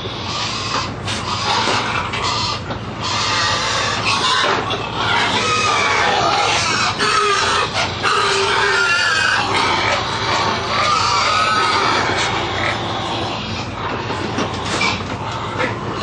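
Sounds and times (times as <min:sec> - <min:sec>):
pigs squealing and grunting: 0:00.0 - 0:16.0.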